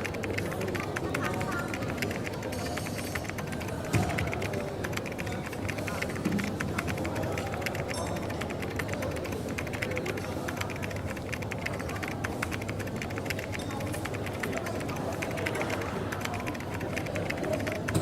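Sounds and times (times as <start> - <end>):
coffee shop background hum: 0.0 - 18.0
typing on a keyboard: 0.0 - 18.0.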